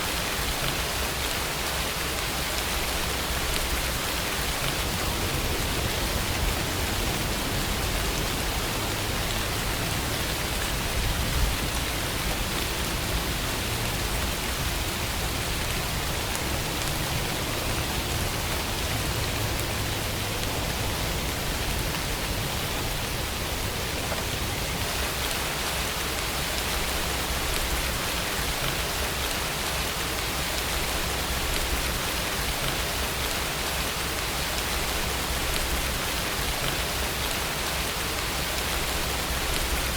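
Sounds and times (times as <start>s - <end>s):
rain hissing: 0.0s - 39.9s
raindrops falling on a surface: 0.0s - 39.9s.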